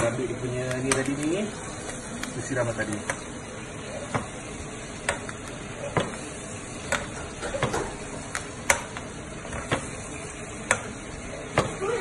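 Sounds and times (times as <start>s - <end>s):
steak sizzling in butter: 0.0s - 12.0s.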